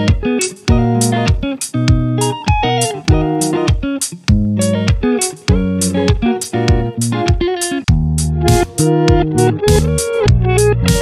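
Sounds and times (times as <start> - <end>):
guitar music over a steady beat: 0.0 - 11.0.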